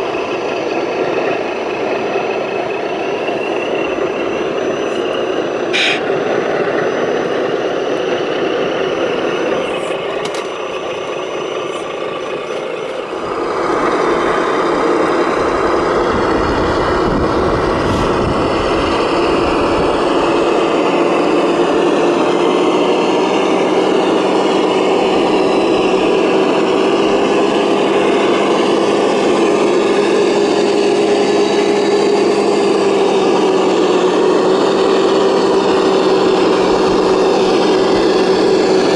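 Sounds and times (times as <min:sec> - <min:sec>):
model truck motor whine: 0:00.0 - 0:38.9.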